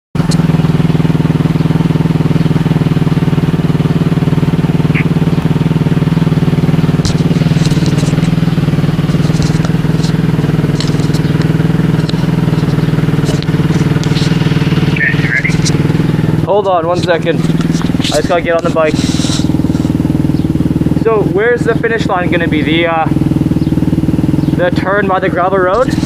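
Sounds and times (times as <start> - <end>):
dirt bike engine idling: 0.2 - 26.0.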